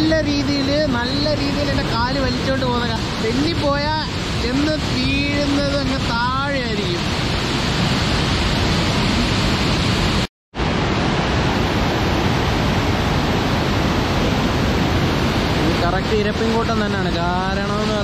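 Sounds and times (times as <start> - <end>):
waterfall rushing over rocks: 0.0 - 18.0.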